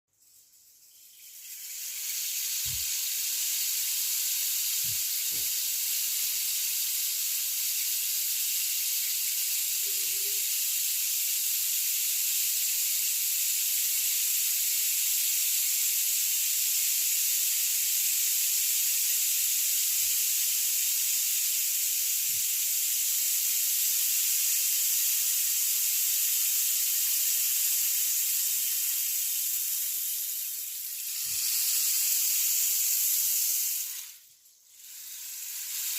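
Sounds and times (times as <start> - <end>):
rainstick grains trickling: 0.2 - 35.9.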